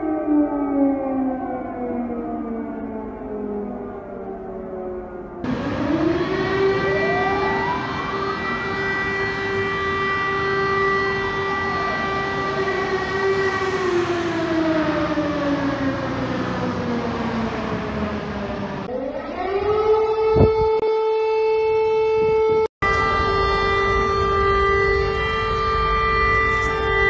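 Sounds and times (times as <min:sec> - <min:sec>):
air-raid sirens wailing: 0:00.0 - 0:27.0.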